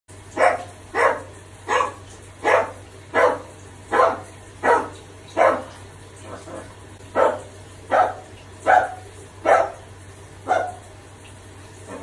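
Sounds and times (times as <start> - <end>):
parrot imitating dog bark: 0.3 - 10.9.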